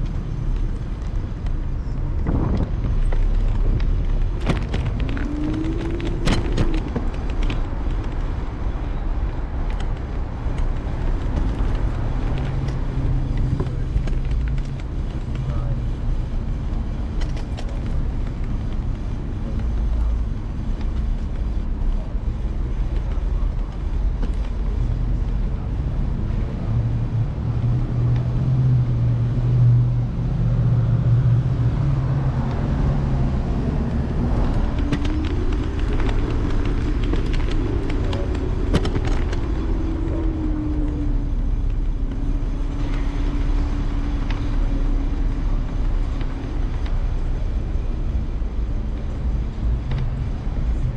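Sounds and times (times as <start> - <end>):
low rumble of traffic: 0.0 - 50.9
vehicle hum rising and falling: 0.0 - 50.9.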